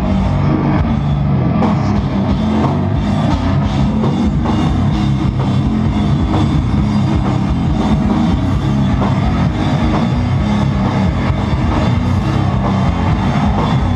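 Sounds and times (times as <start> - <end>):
heavily distorted electric guitar: 0.0 - 13.9
pounding drum kit: 0.0 - 13.9.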